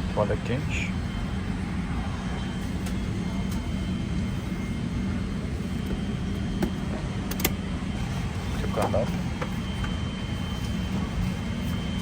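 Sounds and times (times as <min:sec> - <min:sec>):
low cabin air hum: 0:00.0 - 0:12.0.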